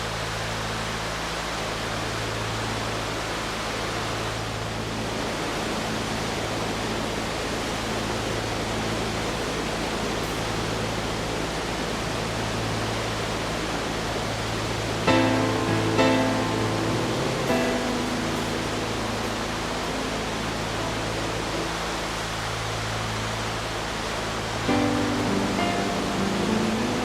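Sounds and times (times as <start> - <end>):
low steady hum: 0.0 - 27.0
waterfall roaring: 0.0 - 27.0.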